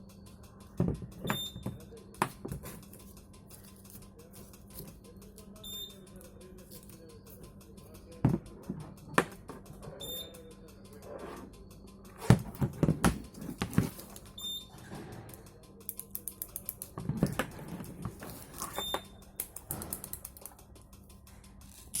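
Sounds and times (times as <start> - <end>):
small mechanical parts clicking: 0.3 - 9.8, 12.8 - 22.0.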